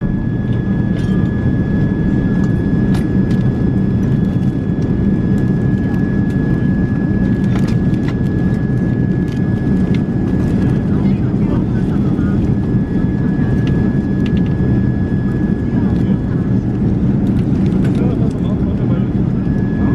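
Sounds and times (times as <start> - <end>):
airliner engine rumble: 0.0 - 19.9.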